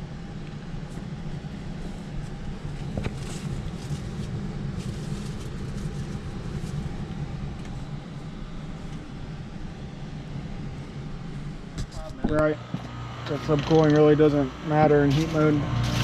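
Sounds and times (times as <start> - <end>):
heat pump humming: 0.0 - 16.0.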